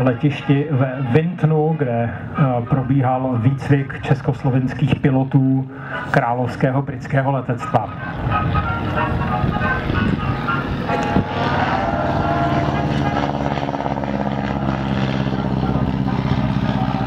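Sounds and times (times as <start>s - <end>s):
biplane radial engine and propeller: 0.0s - 17.0s.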